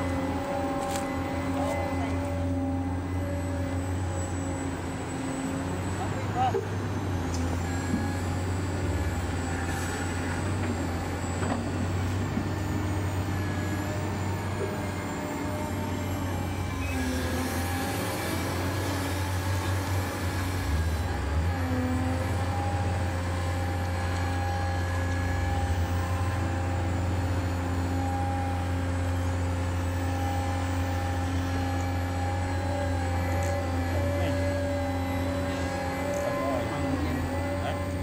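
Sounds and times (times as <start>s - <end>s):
model excavator hum and whine: 0.0s - 38.0s.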